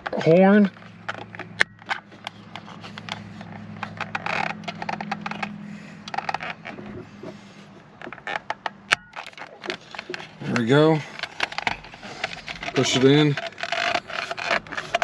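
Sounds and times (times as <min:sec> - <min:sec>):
small plastic clicks and scrapes: 0:00.0 - 0:15.0.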